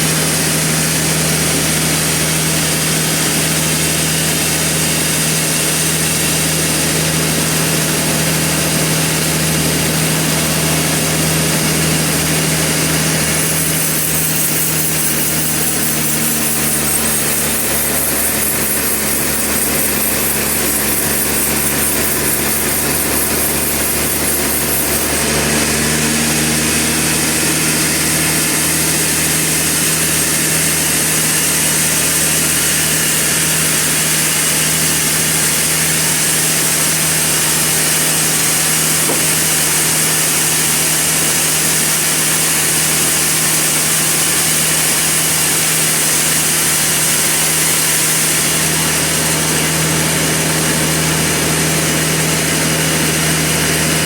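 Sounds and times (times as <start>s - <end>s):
saw cutting through log: 0.0s - 54.0s
sawmill machine hum: 0.0s - 54.0s.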